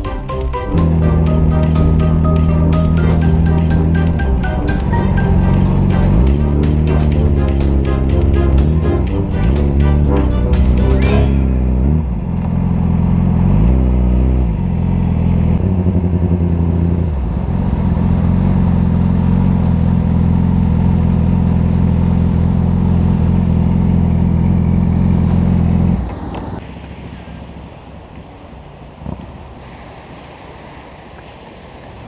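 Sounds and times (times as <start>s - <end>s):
motorcycle engine revving: 0.0s - 26.6s.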